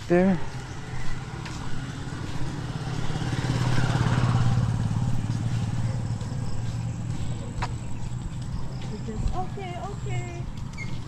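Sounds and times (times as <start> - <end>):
motorcycle engine running: 0.1 - 11.0.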